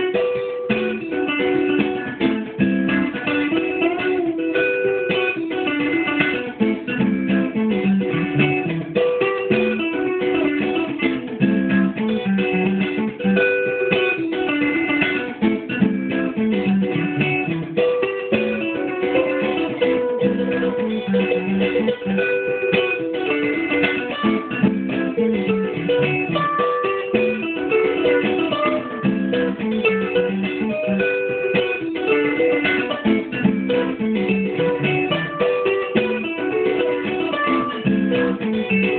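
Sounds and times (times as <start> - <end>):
guitar plucked and strummed: 0.0 - 38.9.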